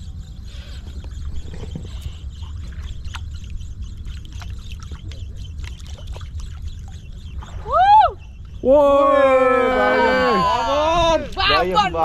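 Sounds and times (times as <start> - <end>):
steady low rumble: 0.0 - 12.0
water lapping around boat: 0.0 - 12.0.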